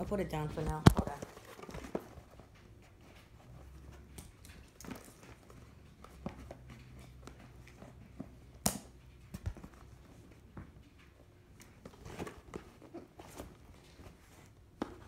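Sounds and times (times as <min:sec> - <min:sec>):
handling knocks and rustles: 0:00.0 - 0:15.0.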